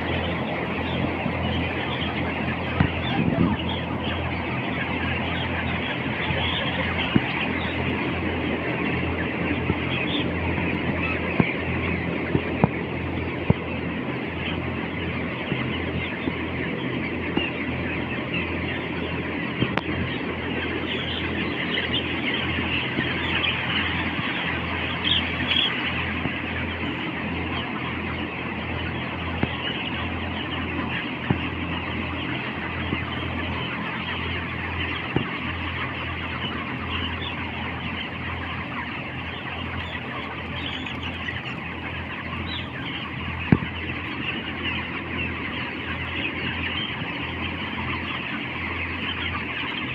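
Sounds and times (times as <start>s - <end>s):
chickens clucking and chirping: 0.0s - 49.9s
steady low hum: 0.0s - 49.9s.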